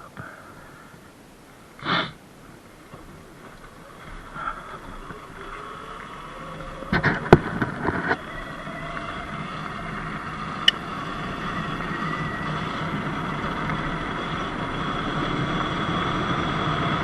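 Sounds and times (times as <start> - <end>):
wind noise: 0.0 - 17.0
tyre noise on dirt: 1.7 - 17.0
electric motor whine: 2.2 - 17.0.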